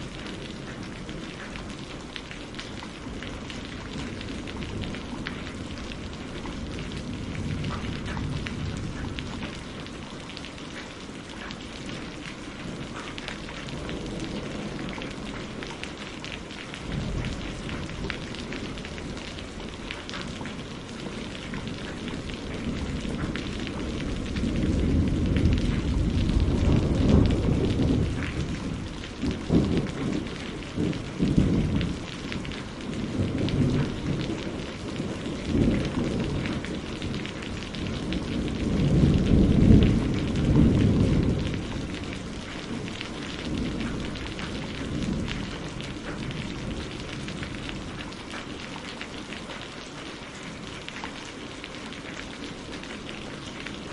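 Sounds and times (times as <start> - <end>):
thunder rumbling: 0.0 - 10.6, 11.2 - 48.4
rain pattering on a roof: 0.0 - 53.9.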